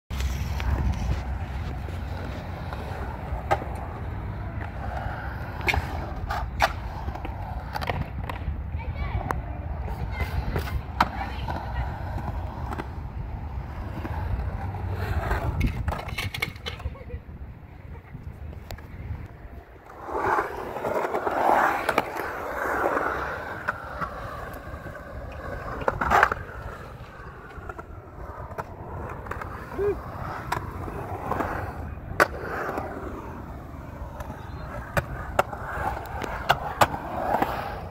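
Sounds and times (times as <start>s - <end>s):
skateboard clacks: 0.1s - 17.1s, 18.1s - 37.9s
skateboard wheels rolling on concrete: 0.1s - 37.9s.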